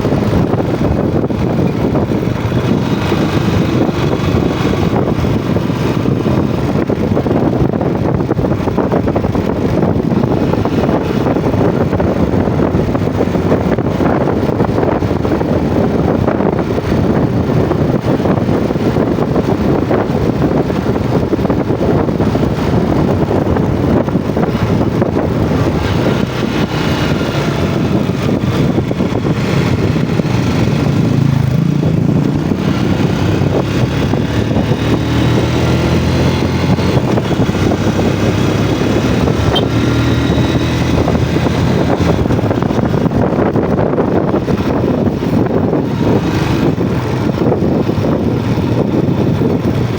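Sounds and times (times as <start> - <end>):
motorcycle engine running: 0.0 - 49.9
road noise: 0.0 - 49.9
wind: 0.0 - 49.9.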